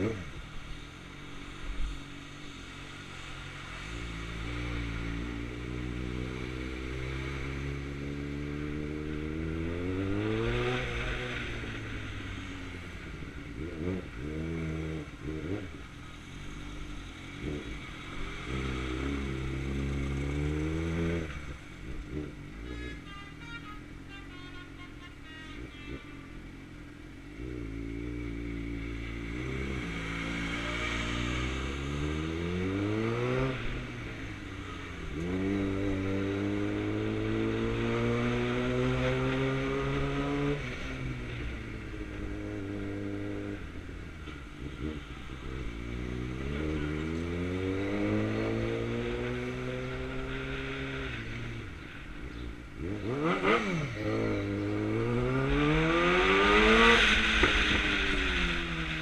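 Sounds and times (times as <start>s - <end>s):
motorcycle engine accelerating: 3.2s - 23.0s, 25.5s - 59.0s.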